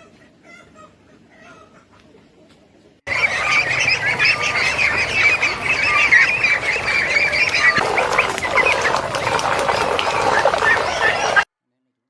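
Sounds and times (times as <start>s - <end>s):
poultry flock squawking: 0.0s - 2.2s, 3.1s - 11.5s.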